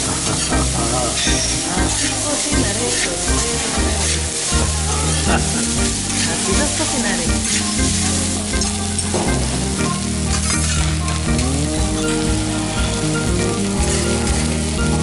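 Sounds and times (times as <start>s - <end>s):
rice sizzling on griddle: 0.0s - 15.0s.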